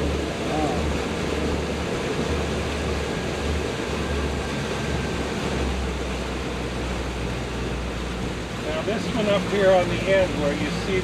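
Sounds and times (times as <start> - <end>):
boat motor rumbling: 0.0 - 11.0
rush of wind and water: 0.0 - 11.0.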